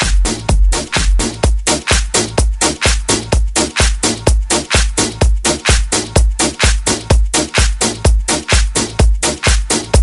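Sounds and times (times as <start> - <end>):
house dance music: 0.0 - 10.0
kick drum: 0.0 - 10.0.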